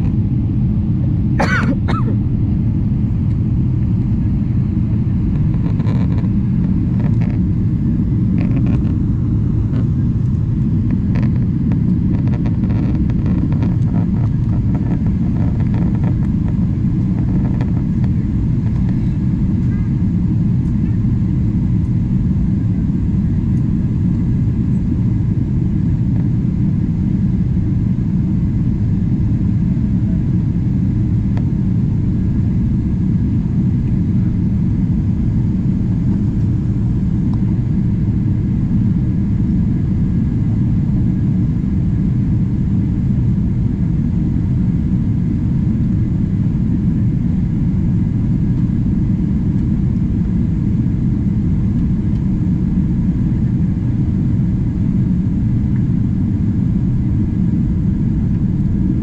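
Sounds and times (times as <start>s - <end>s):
jet airliner cabin noise: 0.0s - 59.0s.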